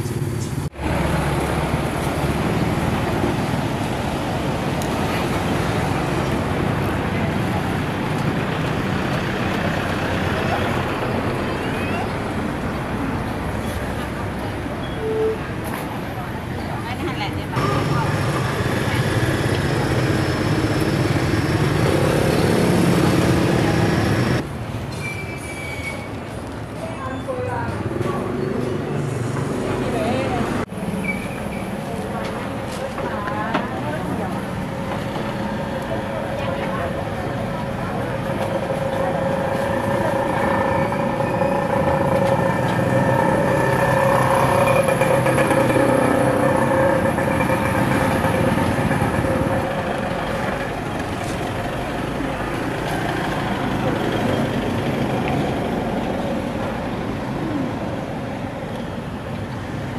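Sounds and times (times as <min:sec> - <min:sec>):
vehicle engine humming: 0:00.0 - 0:24.5, 0:28.5 - 0:59.9
street traffic roar: 0:00.0 - 0:59.9.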